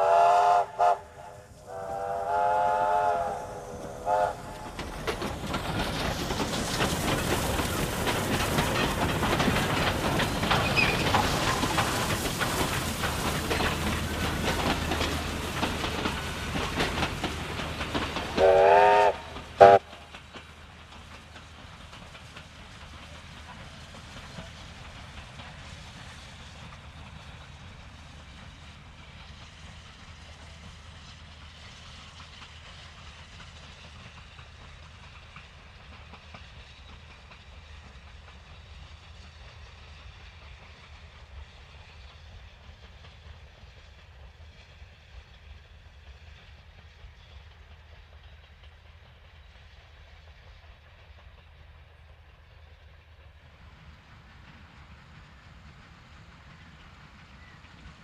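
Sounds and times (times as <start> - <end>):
distant steam train: 0.0 - 58.0.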